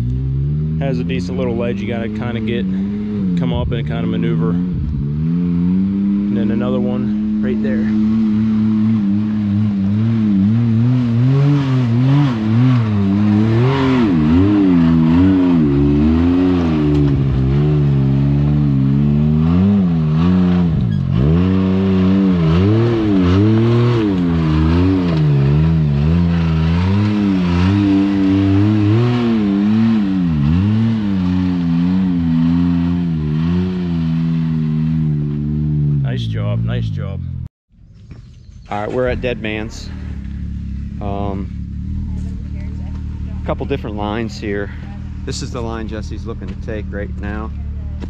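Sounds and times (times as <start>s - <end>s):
engine revving in short blips: 0.0s - 48.0s.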